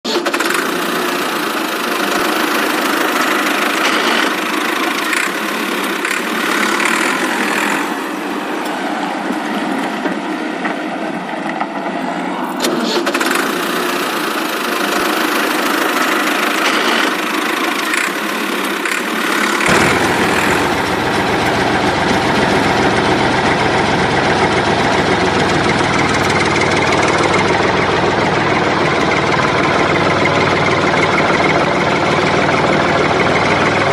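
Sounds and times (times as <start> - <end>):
tractor engine idling with knocking: 0.1 - 33.9.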